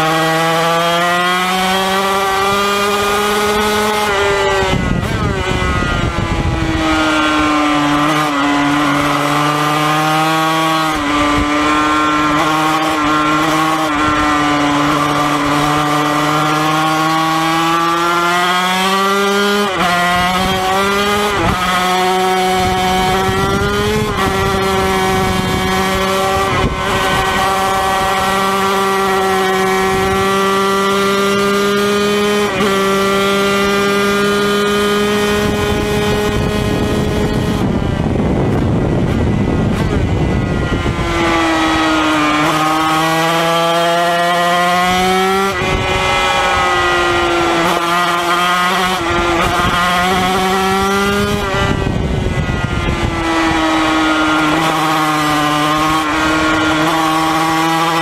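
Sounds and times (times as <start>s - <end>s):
racing engine running hard: 0.0s - 58.0s
wind rushing: 1.2s - 58.0s.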